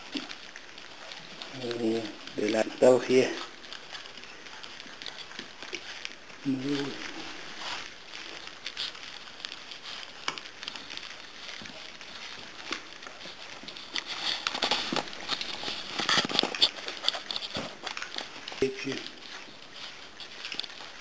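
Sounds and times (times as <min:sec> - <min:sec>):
puppies eating from metal pans: 0:00.0 - 0:21.0.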